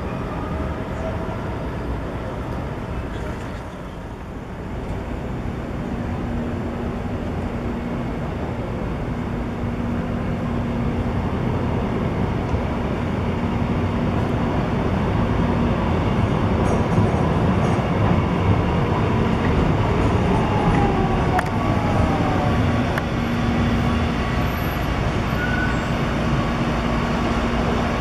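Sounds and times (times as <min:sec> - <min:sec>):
tram running noise and motor hum: 0:00.0 - 0:28.0.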